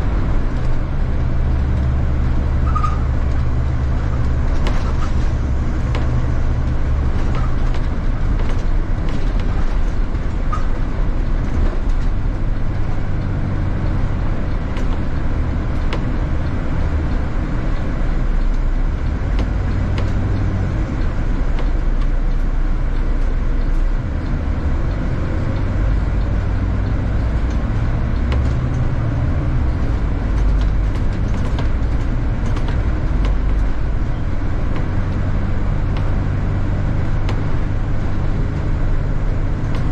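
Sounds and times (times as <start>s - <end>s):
bus engine drone: 0.0s - 39.9s
small clicks and rattles: 0.5s - 39.9s.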